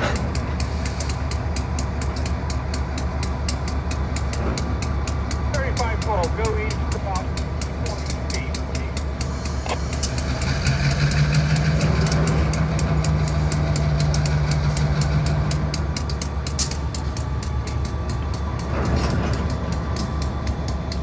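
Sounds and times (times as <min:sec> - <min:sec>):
crossing warning bell ringing: 0:00.0 - 0:21.0
freight cars rolling: 0:00.0 - 0:21.0
low diesel rumble: 0:00.0 - 0:21.0
low engine drone: 0:00.0 - 0:21.0.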